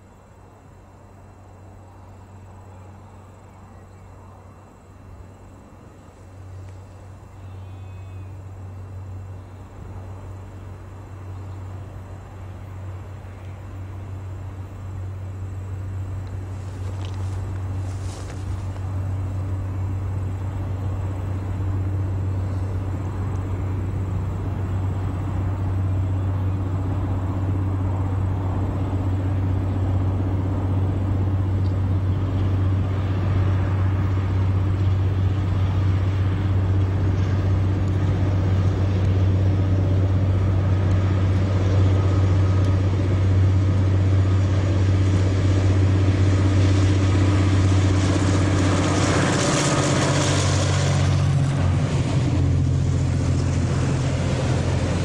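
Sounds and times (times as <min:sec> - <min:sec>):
locomotive engine drone: 0:00.0 - 0:55.0.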